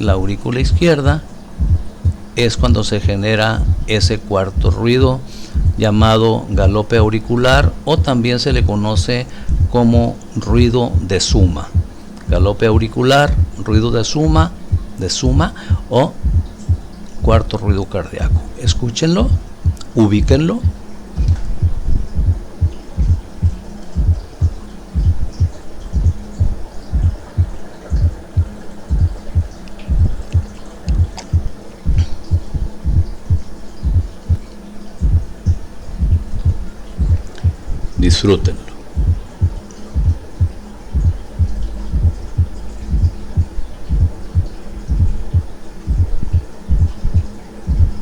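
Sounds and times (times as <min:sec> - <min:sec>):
faint steady hum: 0:00.0 - 0:48.0
heart sounds low thuds: 0:00.0 - 0:48.0.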